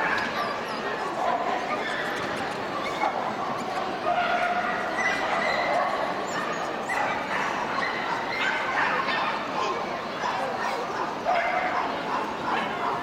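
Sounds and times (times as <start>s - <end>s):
murmur of a crowd: 0.0s - 13.0s.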